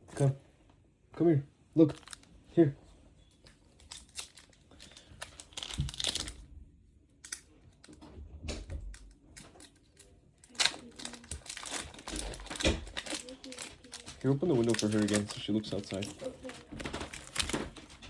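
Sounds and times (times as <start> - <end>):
crinkling and rustling: 1.8 - 18.0.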